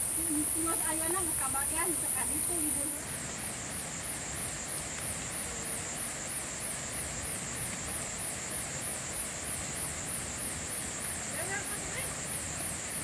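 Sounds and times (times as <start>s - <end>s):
drizzling rain hiss: 0.0s - 13.0s.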